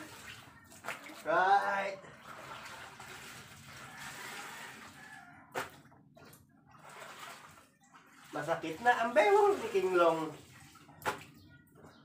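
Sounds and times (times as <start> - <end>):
water sloshing: 0.0 - 11.9.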